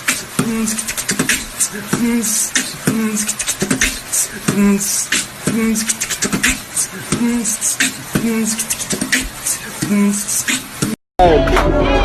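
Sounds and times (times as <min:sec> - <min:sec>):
beatbox vocal rhythm: 0:00.0 - 0:11.0.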